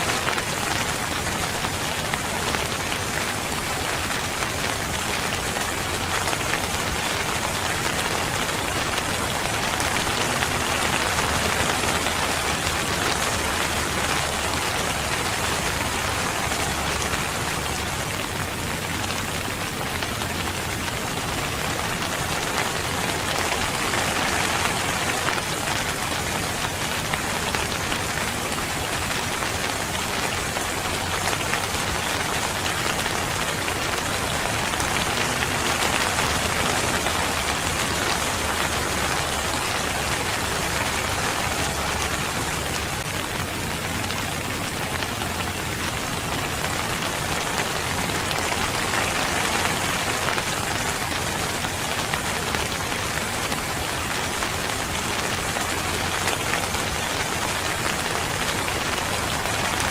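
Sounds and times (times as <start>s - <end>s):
rain pattering on surfaces: 0.0s - 59.9s.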